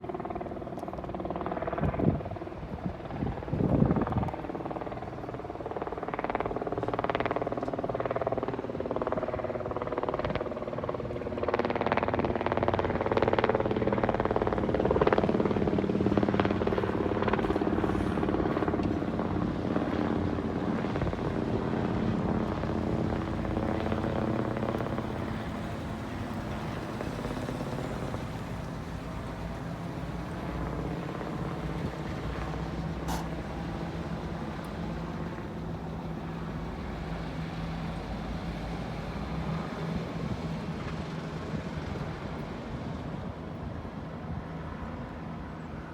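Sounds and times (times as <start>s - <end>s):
helicopter flying past: 0.0s - 45.9s.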